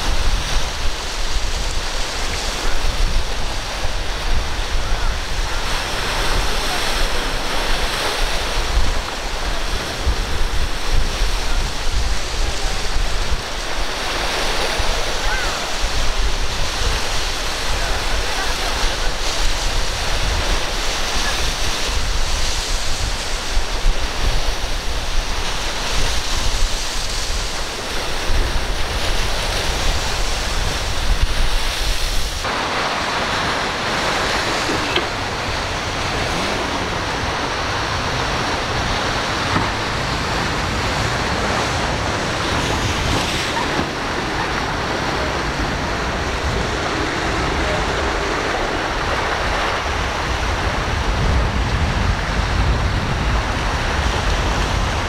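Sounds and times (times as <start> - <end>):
sea waves breaking: 0.0 - 55.0
surf breaking on rocks: 0.0 - 55.0
wind buffeting microphone: 0.0 - 55.0.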